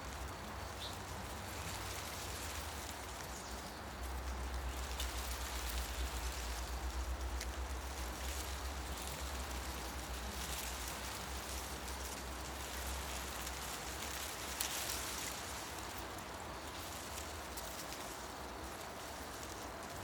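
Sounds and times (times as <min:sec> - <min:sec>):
leaves rustling in wind: 0:00.0 - 0:20.0.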